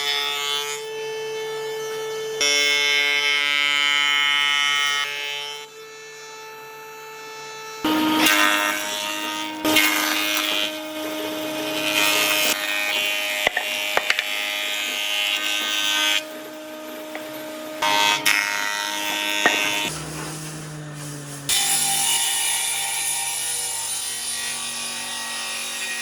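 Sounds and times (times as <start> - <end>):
power tool working wood: 0.0 - 26.0.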